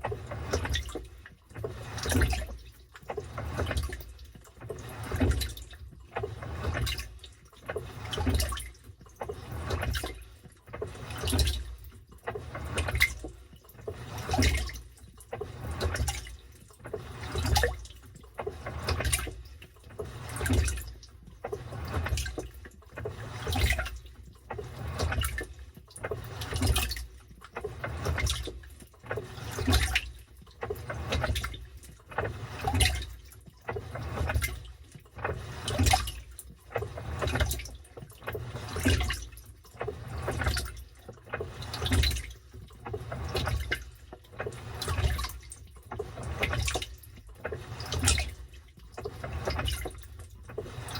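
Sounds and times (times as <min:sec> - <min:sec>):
washing machine water sloshing: 0:00.0 - 0:50.9.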